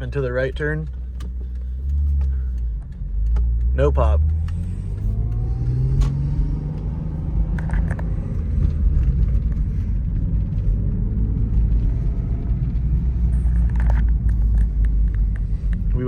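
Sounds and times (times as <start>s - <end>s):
car engine running: 0.0s - 16.0s
low road rumble: 0.0s - 16.0s.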